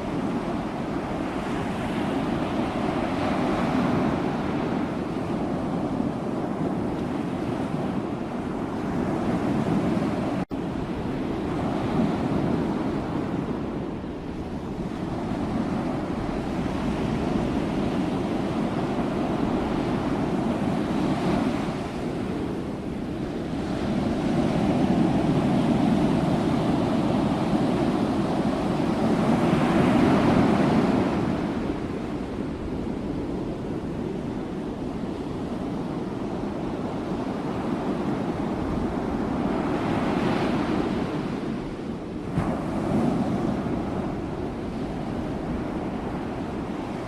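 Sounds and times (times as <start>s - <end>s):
ocean waves breaking on shore: 0.0s - 47.0s.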